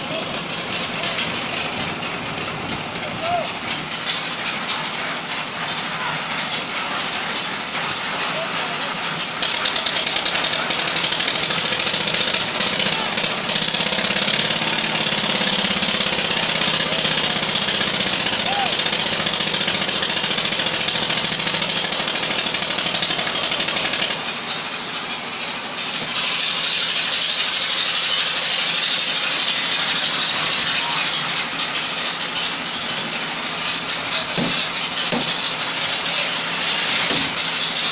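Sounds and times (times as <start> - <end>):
construction machinery engine: 0.0 - 37.9.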